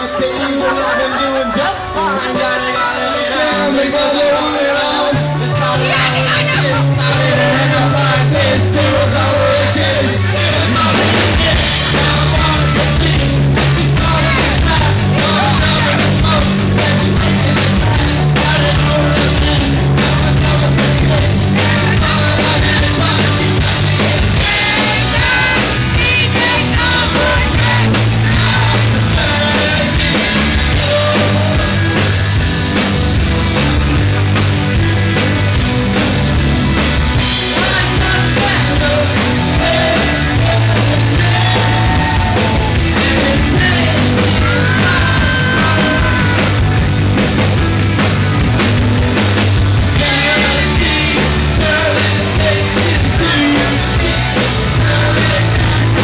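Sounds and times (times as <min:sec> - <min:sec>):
man singing lead: 0:00.0 - 0:35.5, 0:36.1 - 0:47.4, 0:49.4 - 0:56.0
live rock band playing: 0:00.0 - 0:56.0.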